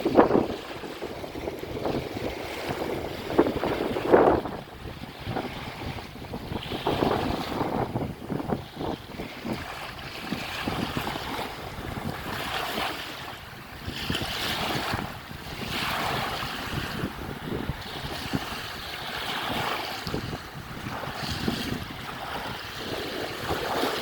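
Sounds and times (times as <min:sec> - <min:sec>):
waves breaking: 0:00.0 - 0:24.0
wind buffeting microphone: 0:00.0 - 0:24.0.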